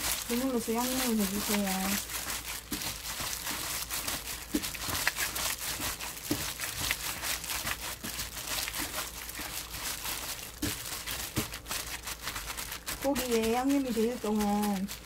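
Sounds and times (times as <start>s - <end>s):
plastic glove crinkling: 0.0s - 15.0s
wet squishing of meat: 0.0s - 15.0s.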